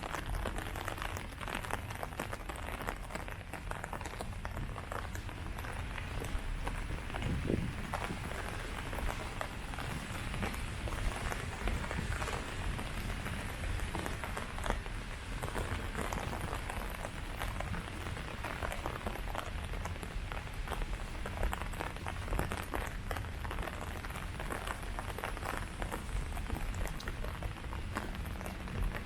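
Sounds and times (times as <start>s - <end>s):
rain falling on leaves: 0.0s - 29.0s.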